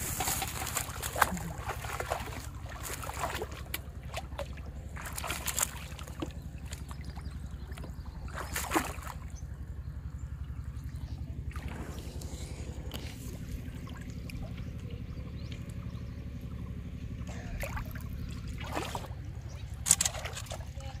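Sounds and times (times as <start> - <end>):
low pulsing throb: 0.0 - 21.0
water splashing from wading: 0.0 - 21.0.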